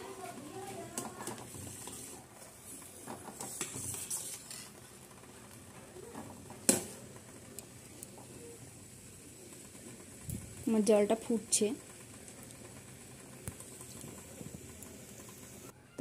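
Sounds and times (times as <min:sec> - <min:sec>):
syrup bubbling: 0:00.0 - 0:15.7.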